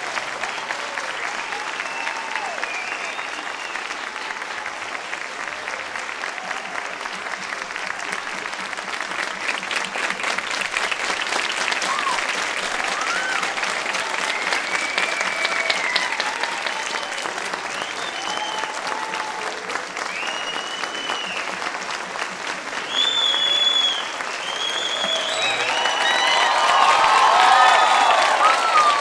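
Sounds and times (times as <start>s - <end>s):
crowd cheering: 0.0s - 29.0s
crowd clapping: 0.0s - 29.0s.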